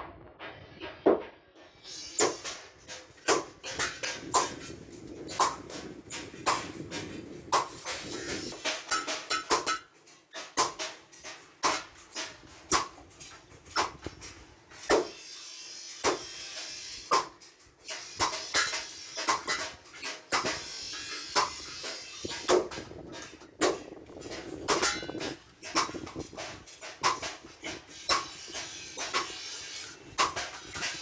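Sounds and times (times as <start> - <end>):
hammer tapping iron griddle: 1.1 - 31.0.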